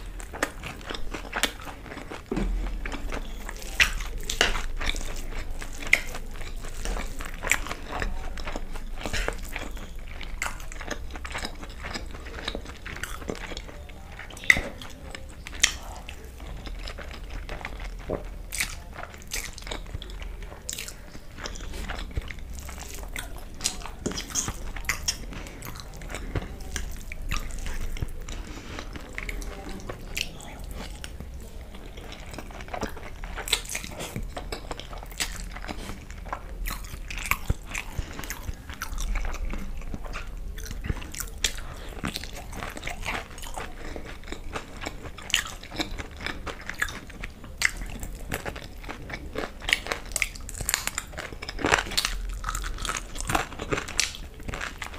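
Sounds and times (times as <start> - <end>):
crunchy chewing: 0.0 - 54.9.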